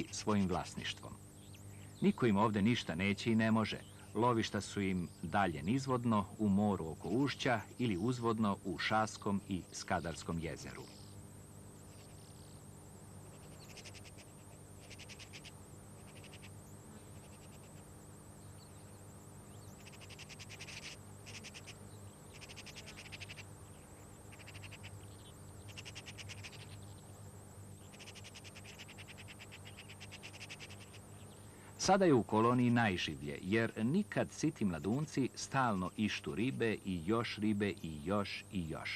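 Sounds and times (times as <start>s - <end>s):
buzzing rattles: 0.0s - 38.8s.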